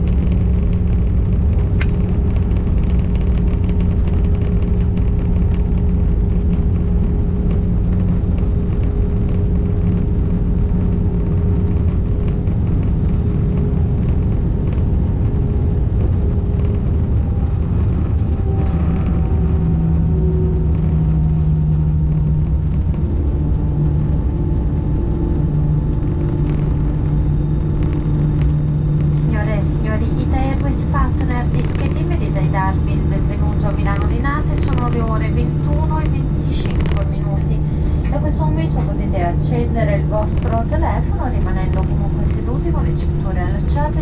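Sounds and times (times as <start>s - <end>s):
jet engines humming: 0.0s - 44.0s
wheels rumbling on runway: 0.0s - 44.0s.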